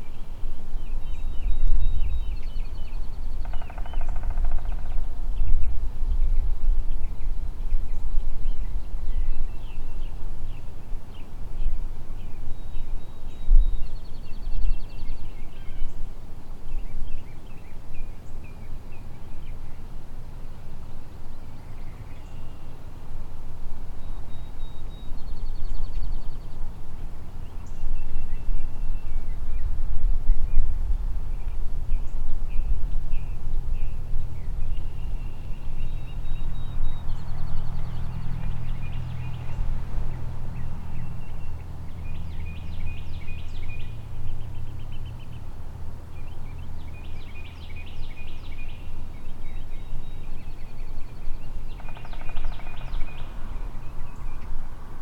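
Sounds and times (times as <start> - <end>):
low steady drone: 0.0 - 55.0
songbirds chirping and trilling: 0.0 - 55.0.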